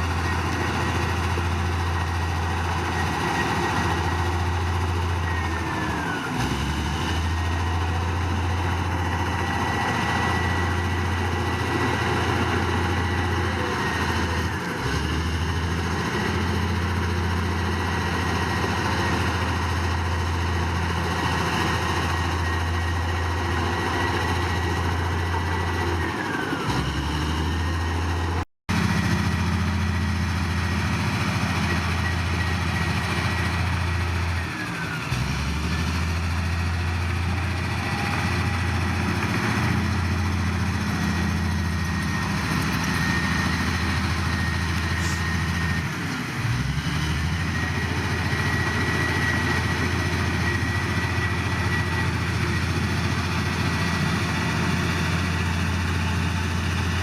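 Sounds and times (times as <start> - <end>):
bulldozer diesel engine whining: 0.0 - 57.0.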